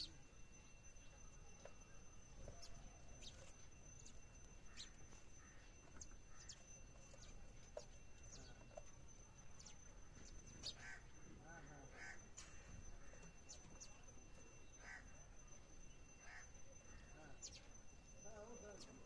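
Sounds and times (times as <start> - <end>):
sparrows chirping faintly: 0.0 - 19.0.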